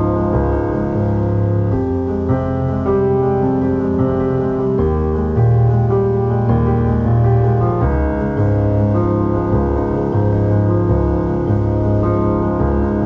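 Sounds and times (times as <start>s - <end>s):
keyboard chords: 0.0s - 13.0s
low bass line: 0.0s - 13.0s.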